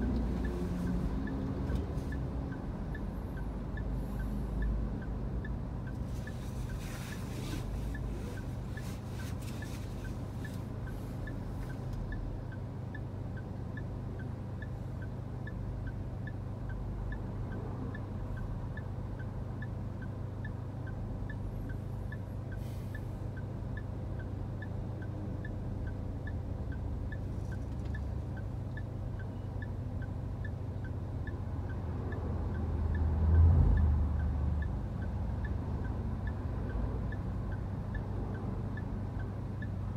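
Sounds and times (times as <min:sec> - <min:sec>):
car engine idling: 0:00.0 - 0:33.2
passing traffic swishing: 0:00.0 - 0:39.9
regular light ticking: 0:00.0 - 0:39.9.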